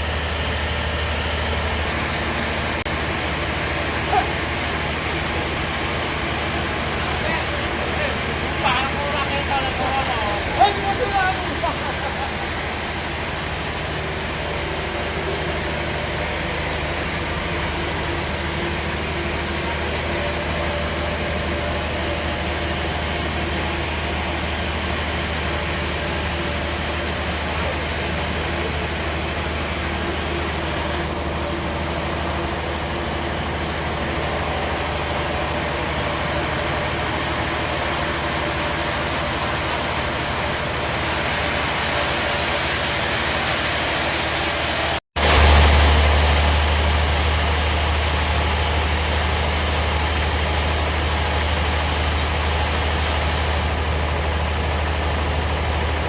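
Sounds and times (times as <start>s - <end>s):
bandsaw sawmill running: 0.0s - 56.0s.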